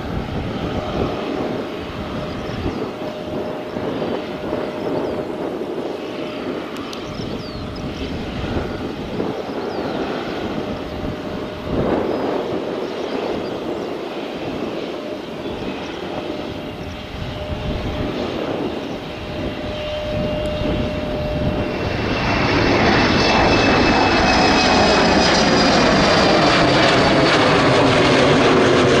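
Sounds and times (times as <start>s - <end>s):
jet engines spooling up with whine: 0.0s - 29.0s.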